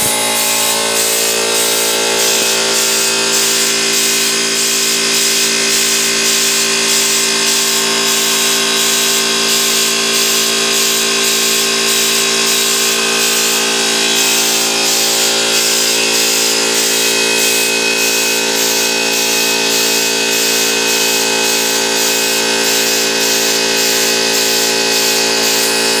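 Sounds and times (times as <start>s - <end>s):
air compressor humming: 0.0s - 26.0s
spray gun air hiss: 0.0s - 26.0s.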